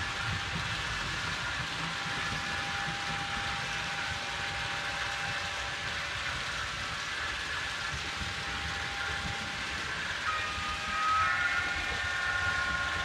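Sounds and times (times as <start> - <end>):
model train wheels on rails: 0.0 - 13.0
small electric motors whining: 0.0 - 13.0.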